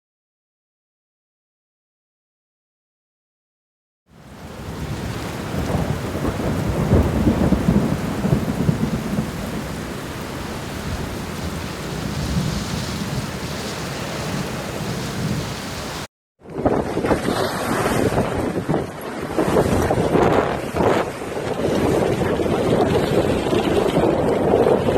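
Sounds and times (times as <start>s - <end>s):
wind buffeting microphone: 4.4s - 24.9s.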